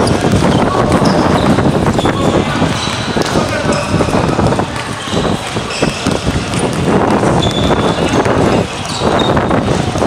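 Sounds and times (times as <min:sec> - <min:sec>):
basketball bouncing: 0:00.0 - 0:10.0
footsteps on hard court: 0:00.0 - 0:10.0
wind noise on microphone: 0:00.0 - 0:10.0.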